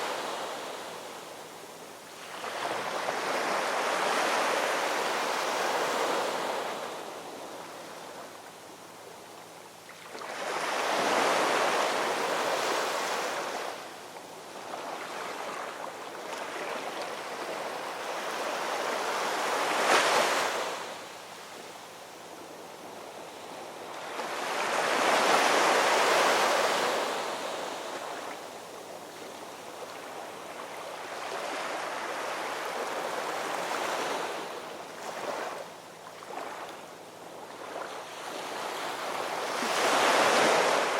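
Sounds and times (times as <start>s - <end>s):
ocean waves breaking on shore: 0.0s - 8.4s, 10.0s - 40.9s.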